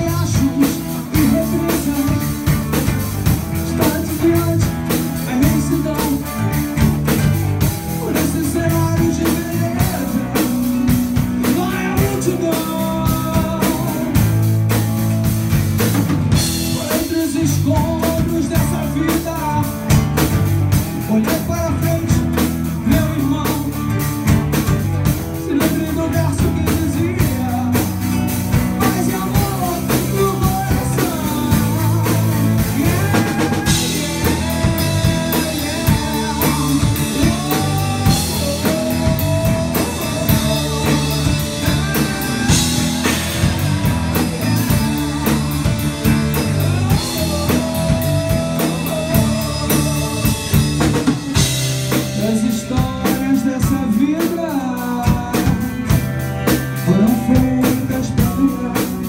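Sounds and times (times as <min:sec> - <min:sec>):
bass guitar: 0:00.0 - 0:59.0
drum kit: 0:00.0 - 0:59.0
electric guitar: 0:00.0 - 0:59.0
melodic lead line: 0:00.0 - 0:59.0.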